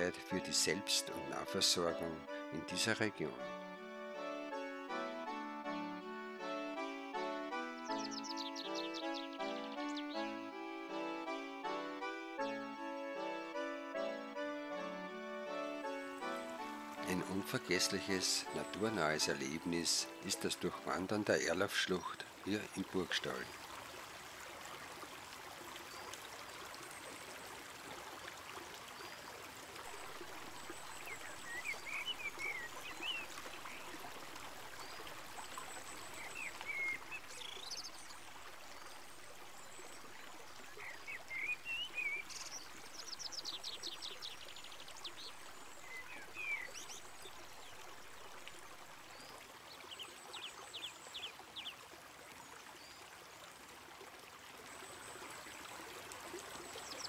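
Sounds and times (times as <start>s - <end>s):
songbirds chirping: 0.0s - 3.5s, 6.7s - 10.6s, 15.4s - 57.0s.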